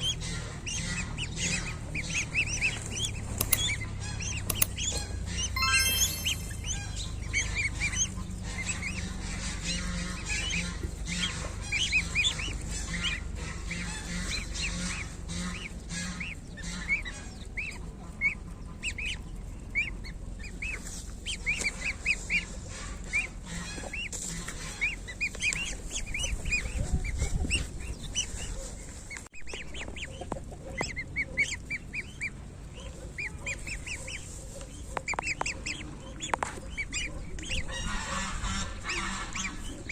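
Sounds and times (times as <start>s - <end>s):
goslings peeping: 0.0s - 39.9s.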